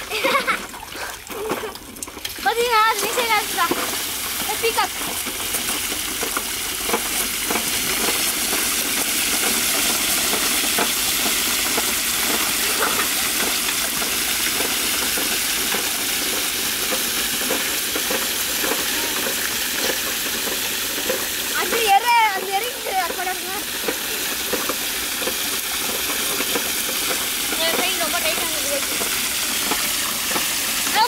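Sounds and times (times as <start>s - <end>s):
bicycle wheels spinning in mud: 0.0s - 31.0s
water spray hissing and splattering: 0.0s - 31.0s.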